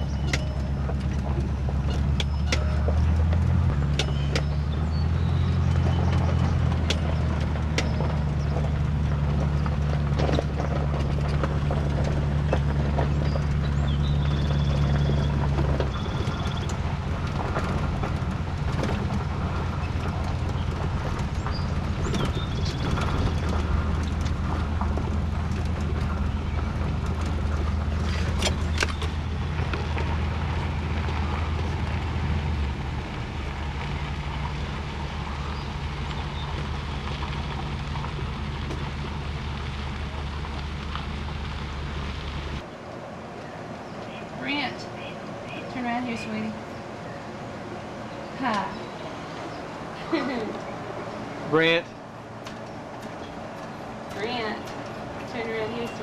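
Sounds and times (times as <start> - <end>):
trailer and boat rattling: 0.0 - 56.0
truck engine and road drone: 0.0 - 56.0.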